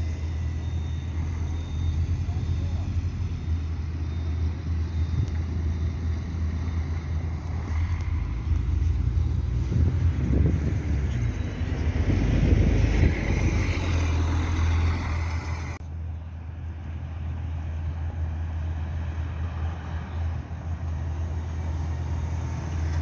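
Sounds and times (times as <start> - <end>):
bus passing close by: 0.0 - 23.0
electric bus low rumble: 0.0 - 23.0.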